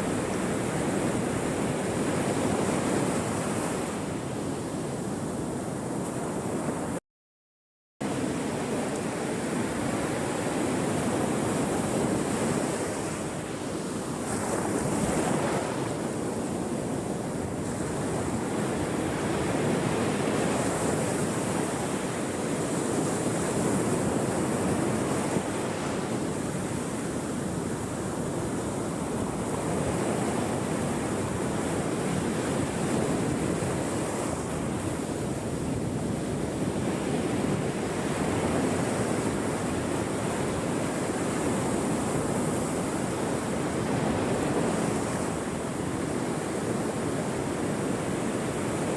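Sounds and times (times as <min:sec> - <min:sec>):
ocean surf washing ashore: 0:00.0 - 0:07.0, 0:08.0 - 0:48.9.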